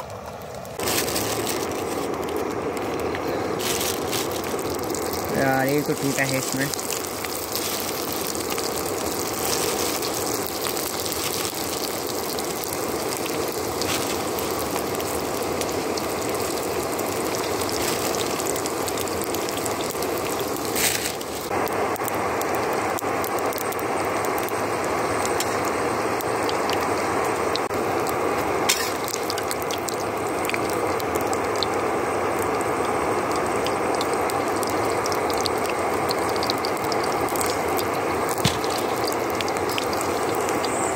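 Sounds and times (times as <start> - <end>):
food frying in hot oil: 0.0 - 40.9.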